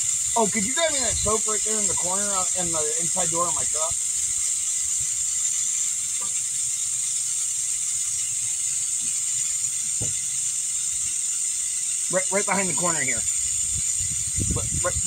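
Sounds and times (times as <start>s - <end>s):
air hissing from tire valve: 0.0s - 15.0s.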